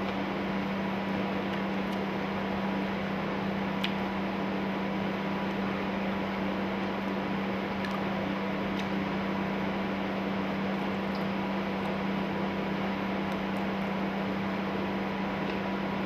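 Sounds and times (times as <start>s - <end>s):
appliance hum: 0.0s - 16.0s.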